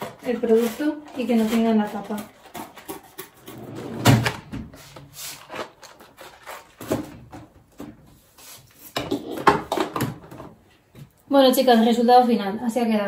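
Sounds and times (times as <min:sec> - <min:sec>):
items tapping and rustling: 0:00.0 - 0:08.2, 0:08.8 - 0:11.2.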